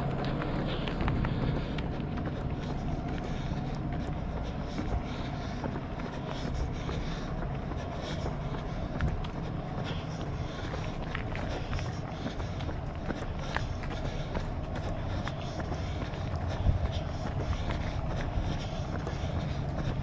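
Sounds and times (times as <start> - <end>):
footsteps on pavement: 0.0 - 20.0
low outdoor rumble: 0.0 - 20.0.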